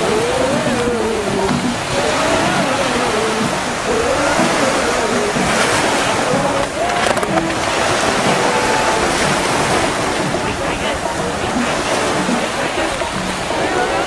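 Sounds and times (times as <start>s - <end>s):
ocean surf washing ashore: 0.0s - 14.0s
wind buffeting microphone: 0.0s - 14.0s.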